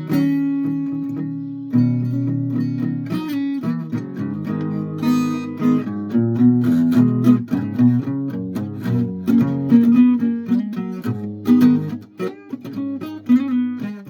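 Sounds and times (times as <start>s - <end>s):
guitar strummed and picked: 0.0s - 14.0s.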